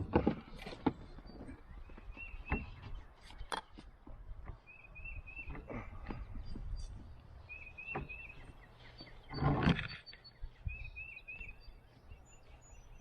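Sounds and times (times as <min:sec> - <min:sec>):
songbird calling: 0:01.0 - 0:03.8, 0:04.4 - 0:13.0.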